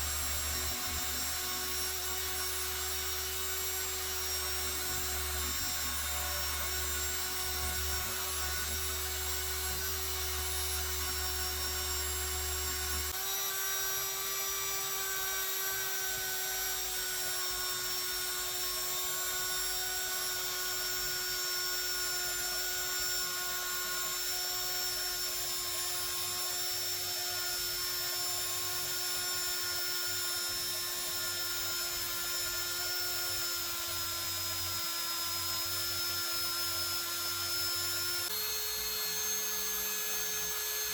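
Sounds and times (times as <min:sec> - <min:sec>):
power tool wire wheel whining: 0:00.0 - 0:40.9.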